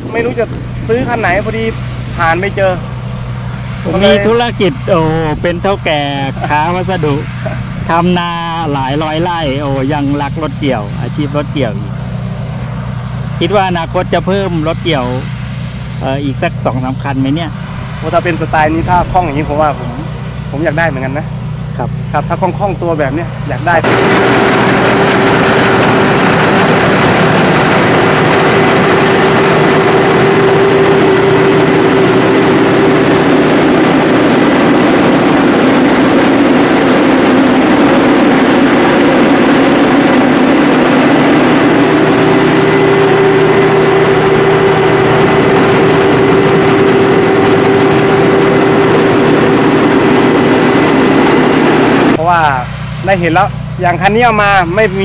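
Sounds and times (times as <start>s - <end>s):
combine harvester engine drone: 0.0s - 55.0s
thin high whine: 0.0s - 55.0s.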